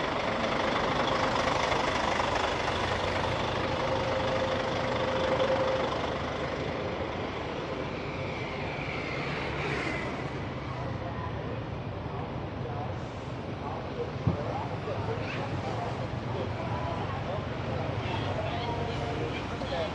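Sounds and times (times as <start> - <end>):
bus engines rumbling: 0.0 - 19.9
street traffic noise: 0.0 - 19.9.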